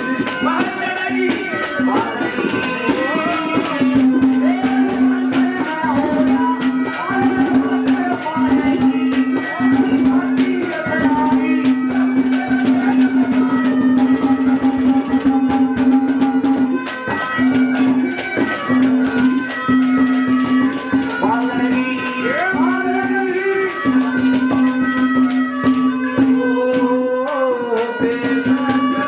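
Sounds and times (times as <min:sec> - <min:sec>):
hand drum strokes: 0:00.0 - 0:29.0
instrumental melody: 0:00.0 - 0:29.0.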